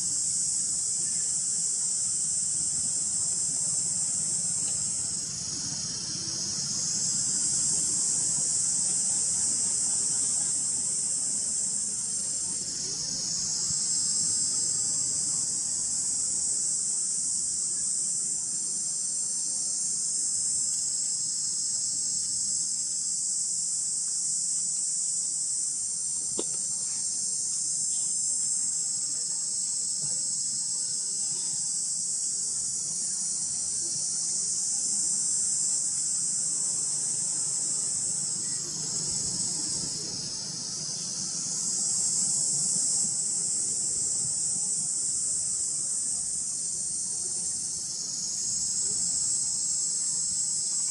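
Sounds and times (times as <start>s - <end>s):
insects buzzing: 0.0s - 50.9s.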